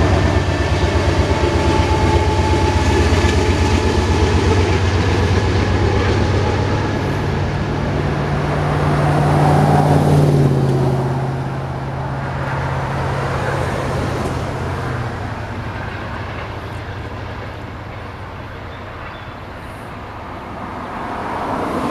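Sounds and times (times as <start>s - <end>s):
road traffic: 0.0s - 21.9s
train rumbling: 0.0s - 21.9s.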